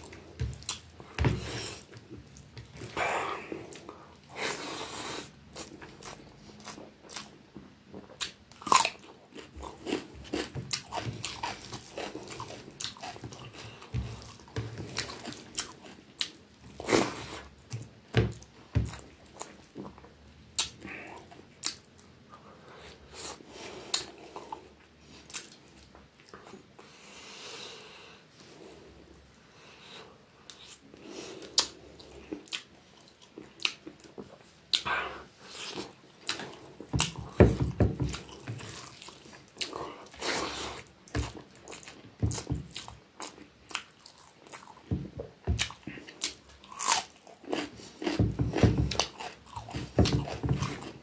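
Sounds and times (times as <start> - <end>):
man chewing with mouth clicks: 0.0 - 26.8, 29.8 - 51.0.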